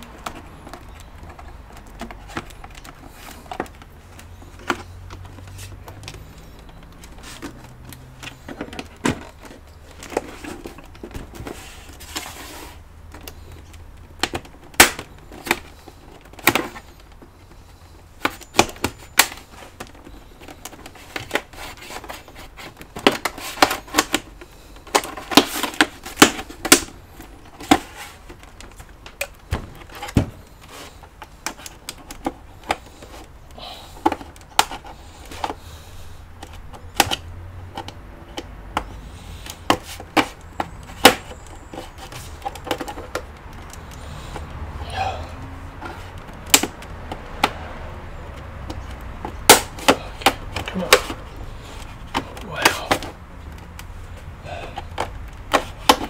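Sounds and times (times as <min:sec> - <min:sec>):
plastic clips clicking and popping: 0:00.0 - 0:11.5, 0:13.1 - 0:35.6, 0:36.4 - 0:44.6, 0:45.8 - 0:56.0.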